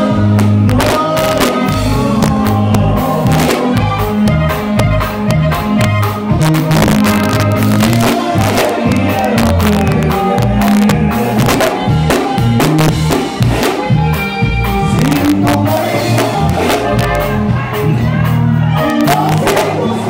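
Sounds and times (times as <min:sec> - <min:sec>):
bass line: 0:00.0 - 0:20.0
button accordion: 0:00.0 - 0:20.0
saxophone: 0:00.0 - 0:20.0
steady drum beat: 0:00.0 - 0:20.0.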